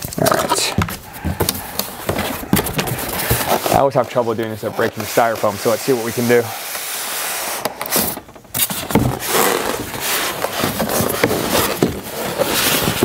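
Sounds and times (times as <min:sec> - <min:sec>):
cardboard and styrofoam scraping: 0:00.7 - 0:13.0.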